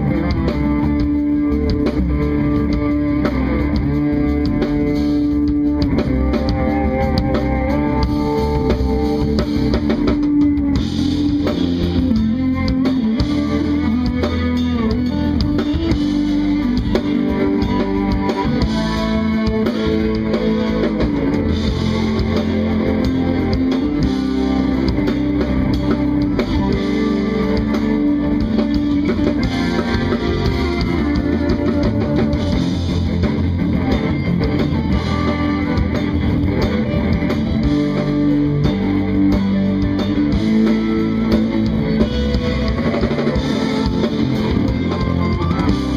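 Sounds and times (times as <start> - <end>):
live jazz fusion band: 0.0 - 45.9.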